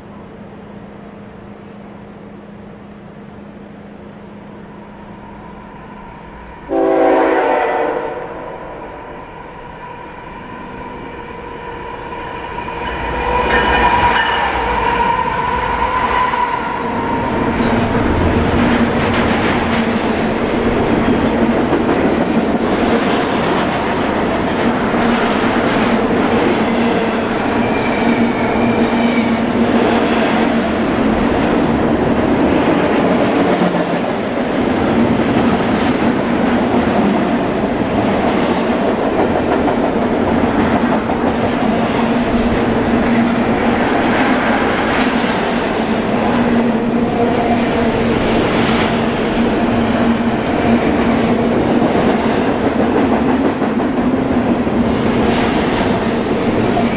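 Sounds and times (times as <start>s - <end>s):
diesel locomotive engine: 0.0s - 56.9s.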